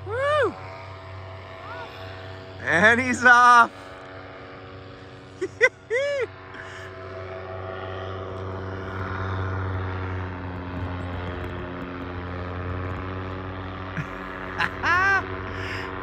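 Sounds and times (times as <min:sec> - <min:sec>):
paramotor engine and propeller droning: 0:00.0 - 0:16.0.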